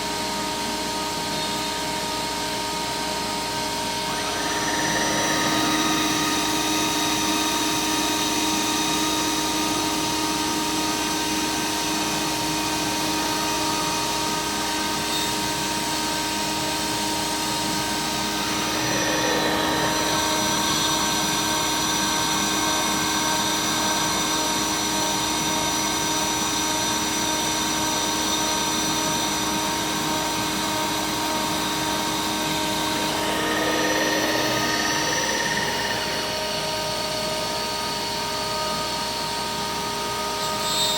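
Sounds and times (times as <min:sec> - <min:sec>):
router spindle whining: 0:01.0 - 0:40.8.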